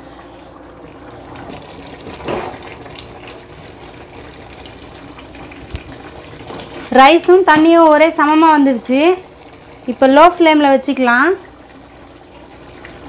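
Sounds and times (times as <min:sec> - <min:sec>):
rice and stock bubbling: 0:00.0 - 0:13.0.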